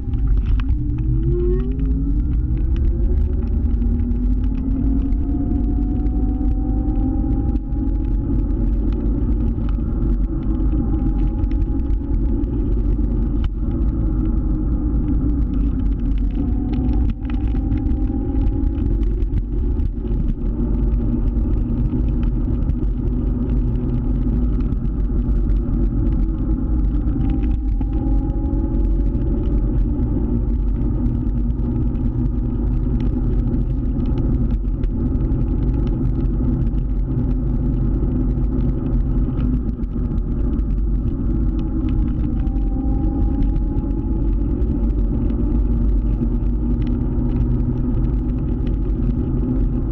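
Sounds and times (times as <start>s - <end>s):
rising engine whine: 0.0s - 49.9s
scooter engine rumbling: 0.0s - 49.9s
wind on microphone: 0.0s - 49.9s.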